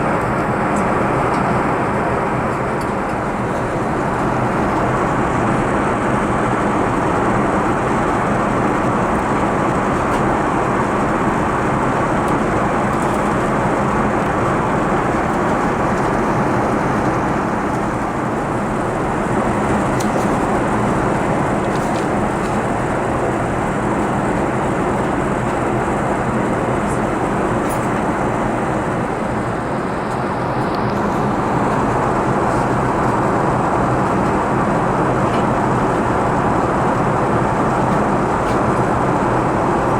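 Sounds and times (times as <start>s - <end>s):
aircraft cabin engine noise: 0.0s - 39.9s.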